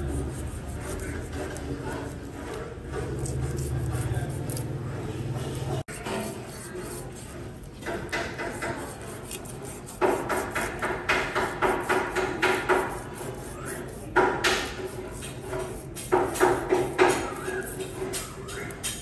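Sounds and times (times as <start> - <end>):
cleaver scraping fish scales: 0.0 - 19.0.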